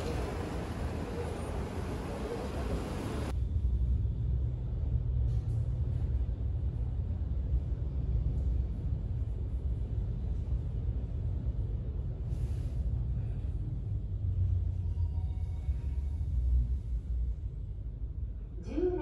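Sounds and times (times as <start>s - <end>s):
muffled city traffic rumble: 0.0s - 19.0s.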